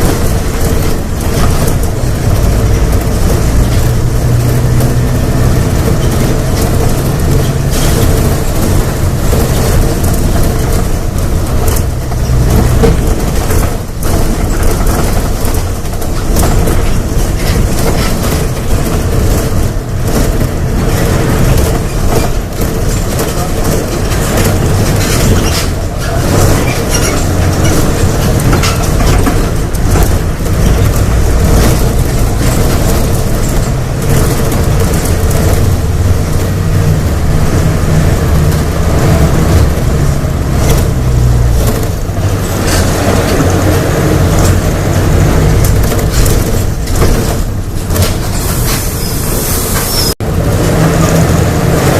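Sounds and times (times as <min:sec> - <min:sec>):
clattering knocks and rattles: 0:00.0 - 0:51.9
diesel bus engine revving: 0:00.0 - 0:51.9.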